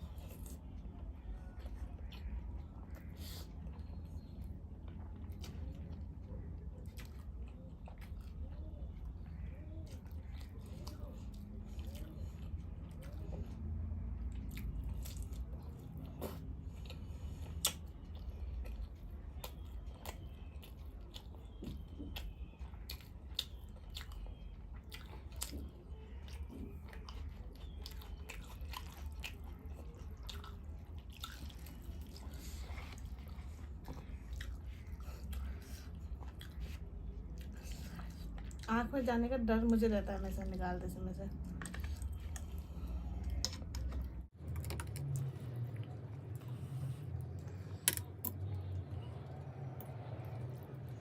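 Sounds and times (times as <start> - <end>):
person chewing food: 0.0 - 38.7, 41.3 - 51.0
low steady hum: 0.0 - 51.0.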